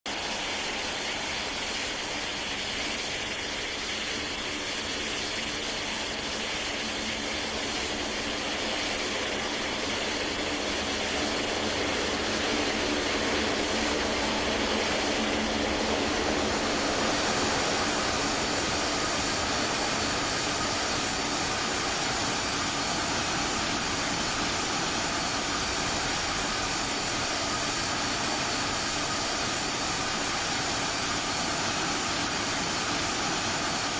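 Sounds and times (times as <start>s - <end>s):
jet engines whining: 0.1s - 33.9s.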